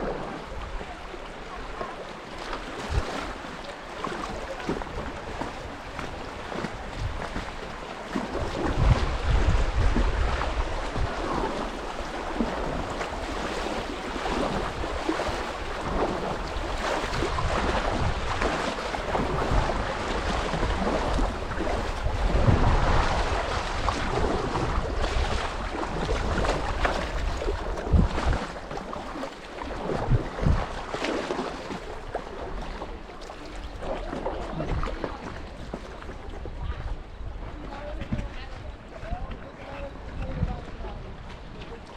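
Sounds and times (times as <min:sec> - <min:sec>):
water rushing and splashing: 0:00.0 - 0:41.9
wind buffeting microphone: 0:02.6 - 0:41.9.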